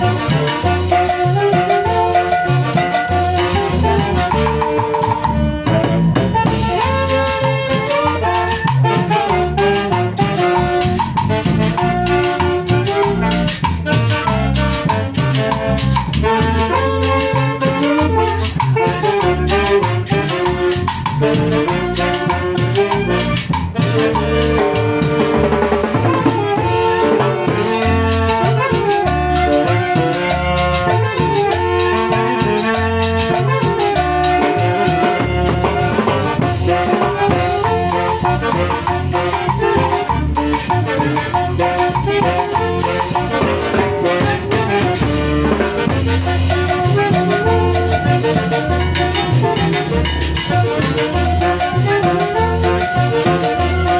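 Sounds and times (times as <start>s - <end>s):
brass horns playing melody: 0.0s - 53.9s
drum kit steady beat: 0.0s - 53.9s.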